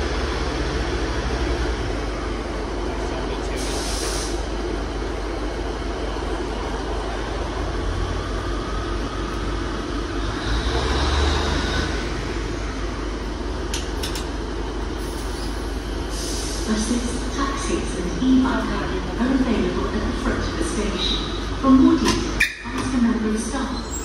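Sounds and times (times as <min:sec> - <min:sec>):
stationary train humming: 0:00.0 - 0:24.0.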